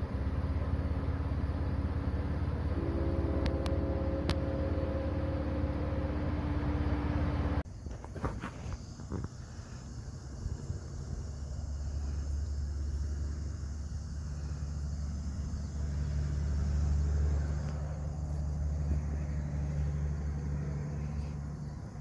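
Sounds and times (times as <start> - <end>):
vehicle engine idling: 0.0 - 7.6, 9.6 - 22.0.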